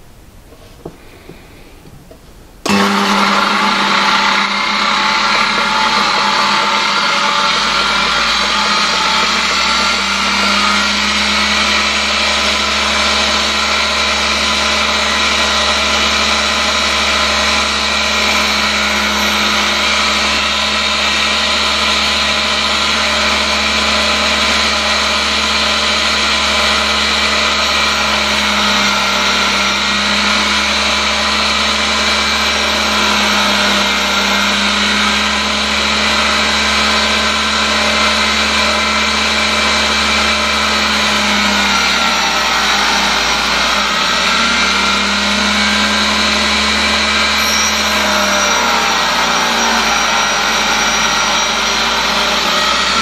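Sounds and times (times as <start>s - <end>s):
motor hum: 2.1s - 53.0s
grinding wheel rasping: 2.6s - 53.0s.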